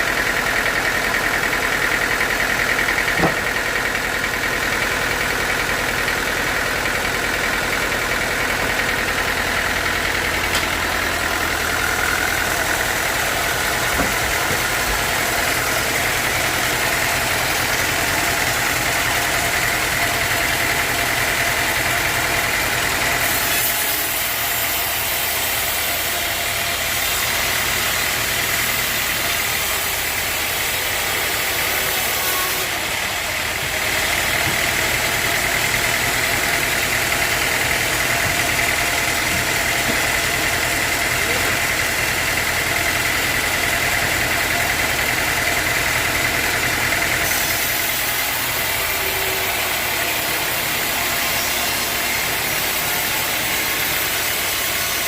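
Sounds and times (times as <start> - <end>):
sawmill machinery drone: 0.0 - 55.0.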